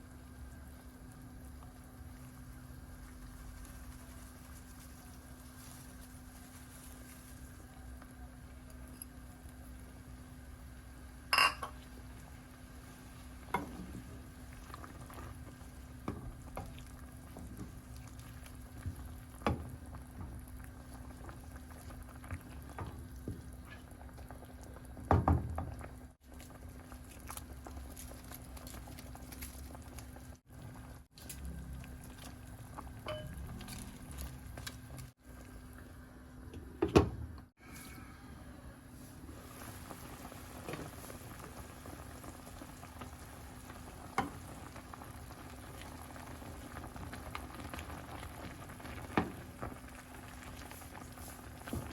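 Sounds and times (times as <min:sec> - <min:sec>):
soup bubbling in a pot: 0:00.0 - 0:51.9.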